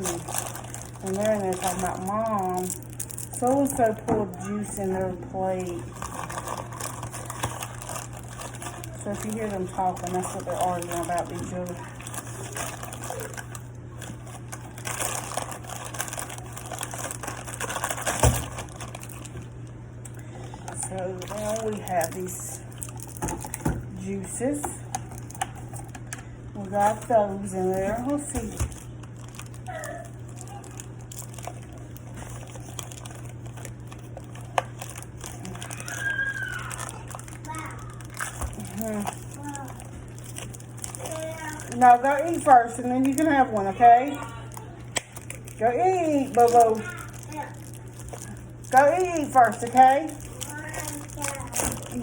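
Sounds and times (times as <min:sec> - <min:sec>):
plastic packaging rustling: 0:00.0 - 0:52.0.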